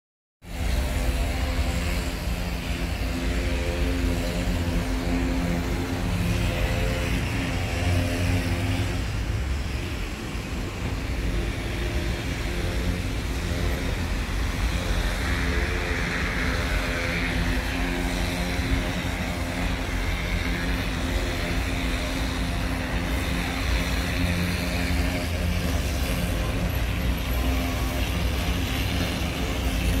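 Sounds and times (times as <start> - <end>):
engine hum: 0.4 - 30.0.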